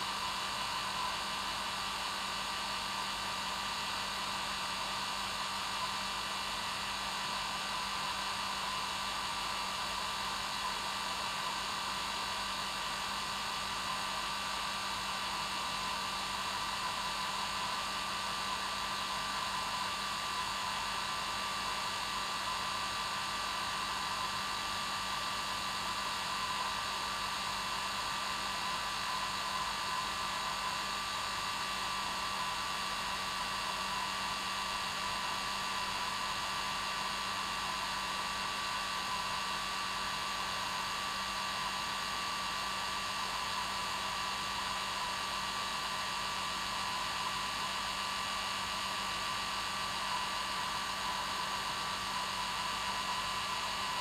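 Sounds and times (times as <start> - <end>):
hair dryer running: 4.2 - 54.0.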